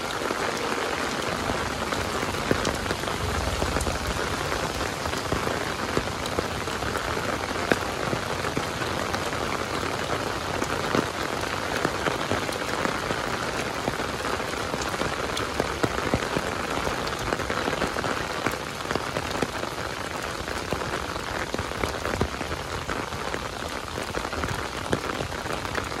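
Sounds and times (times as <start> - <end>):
rain falling on water: 0.0 - 26.0
raindrops ticking close by: 0.0 - 26.0.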